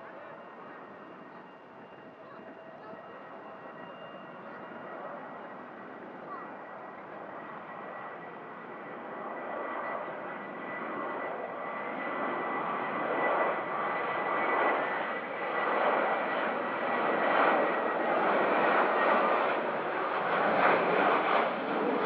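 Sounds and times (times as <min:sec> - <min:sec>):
airliner engines roaring: 0:00.0 - 0:22.0.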